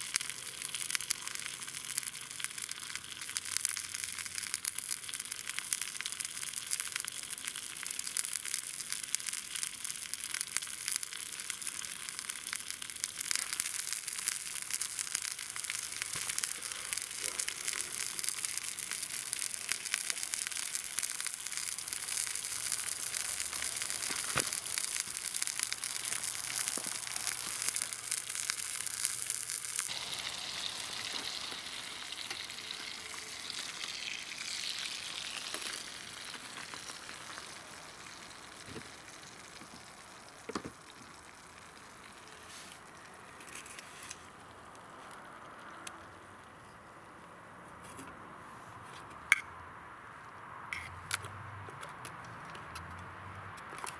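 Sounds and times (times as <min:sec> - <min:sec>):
food sizzling in a pan: 0:00.0 - 0:43.8.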